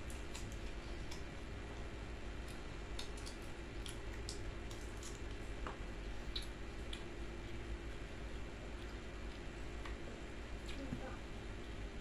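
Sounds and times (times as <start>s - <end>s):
wet chewing: 0.0s - 10.9s
steady low hum: 0.0s - 12.0s.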